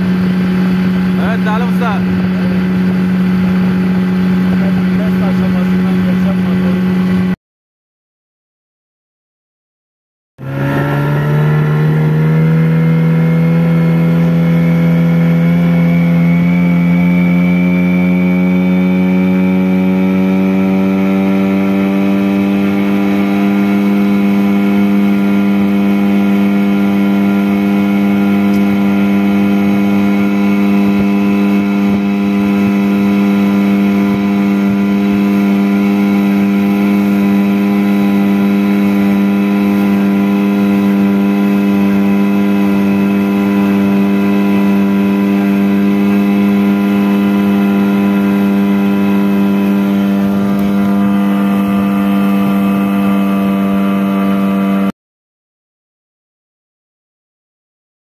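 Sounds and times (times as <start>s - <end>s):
outboard motor running: 0.0s - 7.4s, 10.4s - 55.0s.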